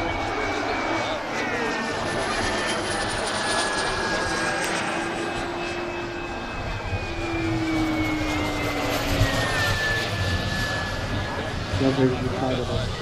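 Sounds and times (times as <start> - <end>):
model turbine engine whine: 0.0 - 13.0.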